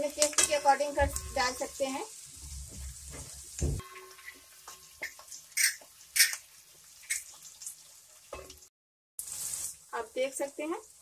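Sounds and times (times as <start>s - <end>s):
frying pops and crackles: 0.0s - 11.0s.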